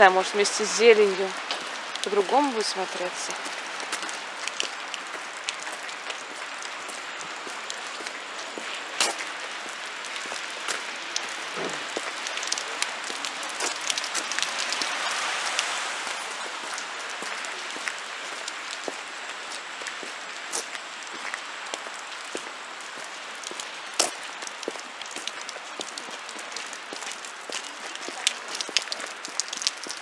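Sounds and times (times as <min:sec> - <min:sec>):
crackling rain-like hiss: 0:00.0 - 0:30.0.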